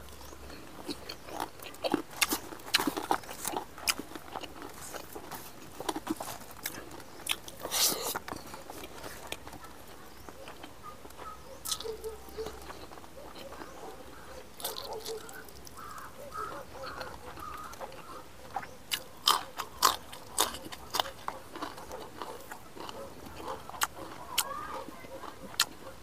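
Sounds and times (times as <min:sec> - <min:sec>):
man chewing food: 0:00.0 - 0:26.0.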